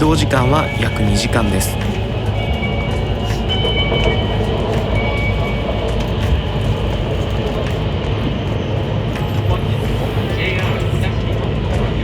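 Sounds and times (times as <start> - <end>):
train rumbling and rushing: 0.0 - 12.0.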